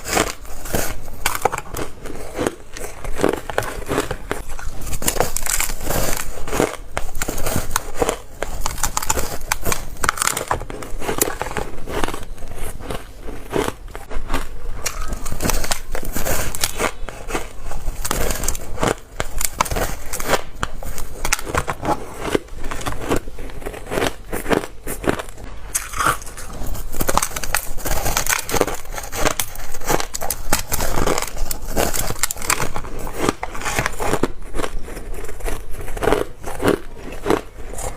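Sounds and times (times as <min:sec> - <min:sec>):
ice crunching between teeth: 0:00.0 - 0:37.9.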